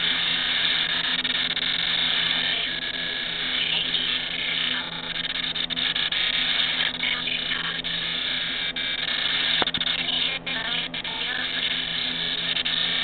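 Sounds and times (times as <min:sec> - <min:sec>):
garbled warbling television audio: 0:00.0 - 0:13.0
low hum: 0:00.0 - 0:13.0.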